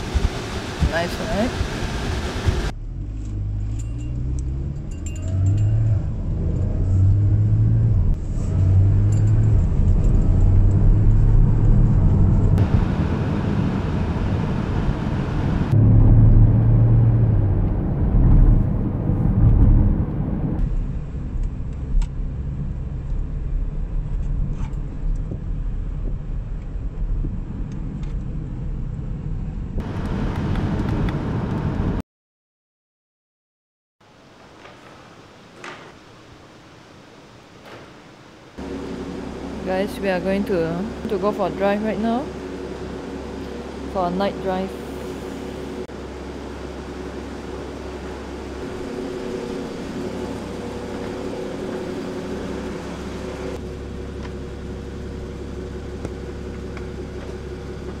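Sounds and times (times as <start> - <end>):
sports car engine hum from inside: 0.0 - 31.9, 38.6 - 58.0.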